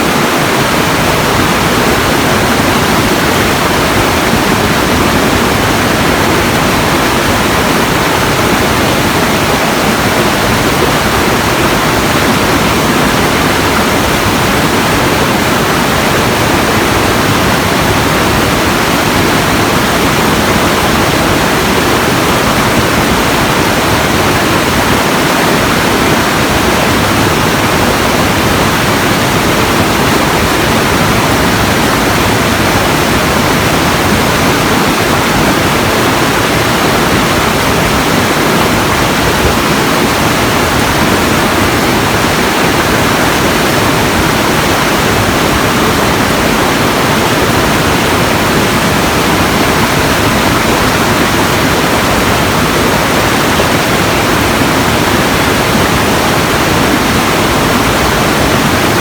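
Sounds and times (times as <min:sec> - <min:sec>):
loud steady rushing noise: 0:00.0 - 0:59.0.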